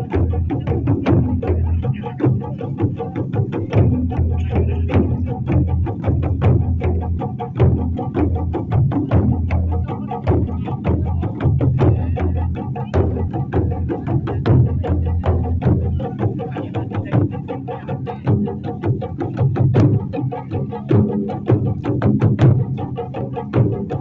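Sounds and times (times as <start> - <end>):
deep booming drum tones: 0.0 - 24.0
taiko drums played fast: 0.0 - 24.0.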